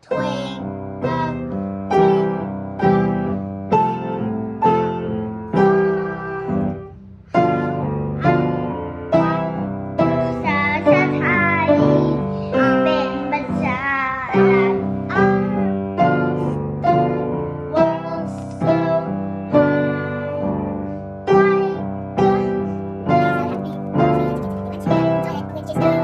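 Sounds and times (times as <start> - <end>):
piano playing slow tune: 0.0 - 26.0.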